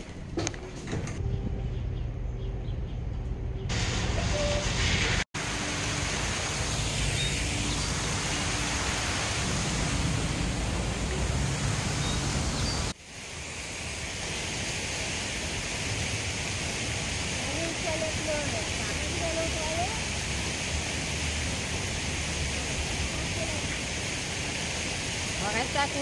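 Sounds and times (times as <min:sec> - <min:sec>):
fountain water splashing: 0:03.7 - 0:26.0.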